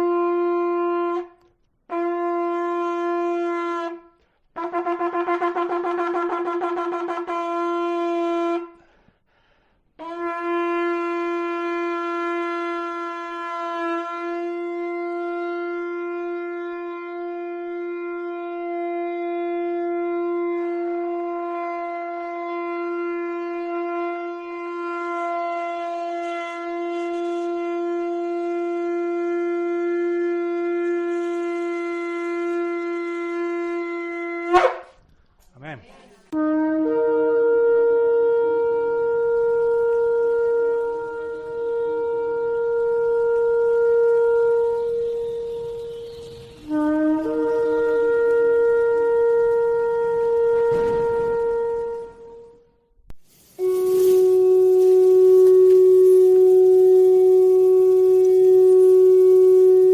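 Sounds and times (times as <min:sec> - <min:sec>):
ram's horn blowing: 0:00.0 - 0:35.1, 0:36.3 - 0:59.9.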